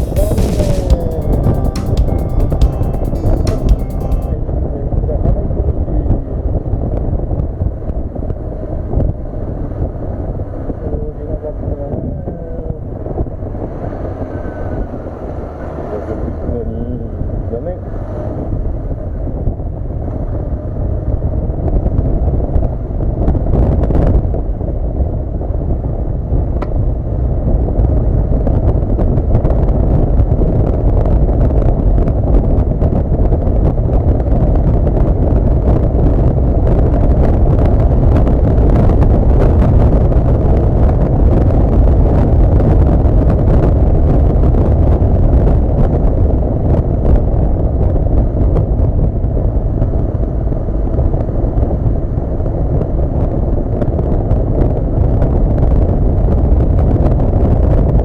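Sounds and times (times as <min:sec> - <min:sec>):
heavy wind noise on microphone: 0:04.3 - 0:58.0.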